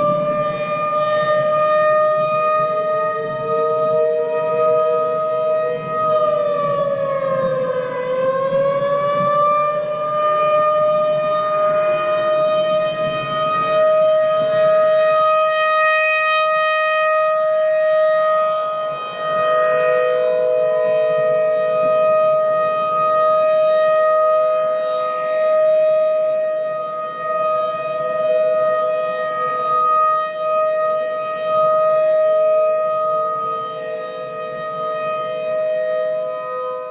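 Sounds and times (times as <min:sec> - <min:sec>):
emergency siren wailing: 0:00.0 - 0:36.9
lower siren tone: 0:00.0 - 0:36.9.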